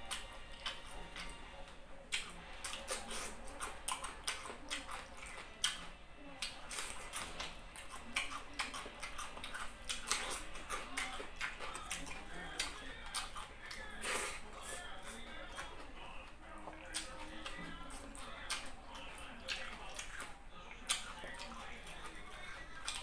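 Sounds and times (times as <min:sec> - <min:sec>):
chewing and eating mouth sounds: 0:00.0 - 0:23.0.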